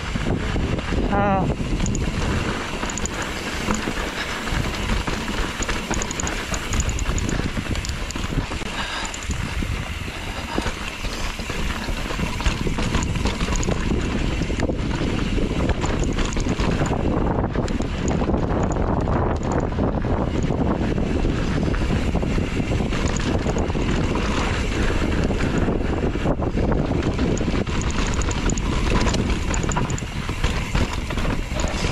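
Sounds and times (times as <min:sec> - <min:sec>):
bike rattling over rough trail: 0:00.0 - 0:31.9
wind buffeting microphone: 0:00.0 - 0:31.9.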